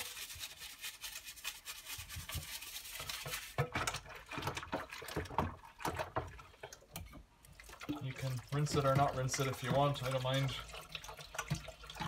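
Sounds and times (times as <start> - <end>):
hands scrubbing plastic in water: 0.0 - 12.0.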